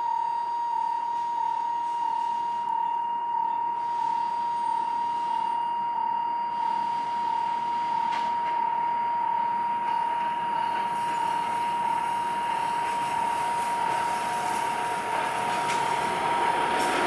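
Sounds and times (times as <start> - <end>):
level crossing warning tone: 0.1 - 17.0.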